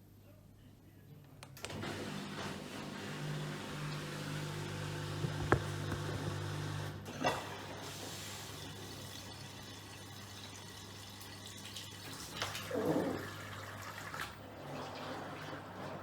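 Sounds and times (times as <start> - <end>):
washing machine motor hum: 1.5 - 16.0.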